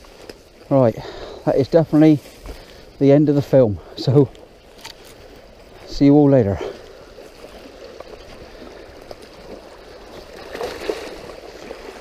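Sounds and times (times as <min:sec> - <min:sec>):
stream running: 0:00.0 - 0:12.0.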